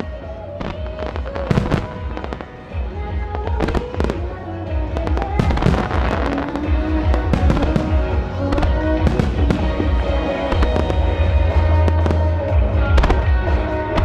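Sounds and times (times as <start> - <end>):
fireworks bangs and crackles: 0.0 - 14.0
music playing: 0.0 - 14.0.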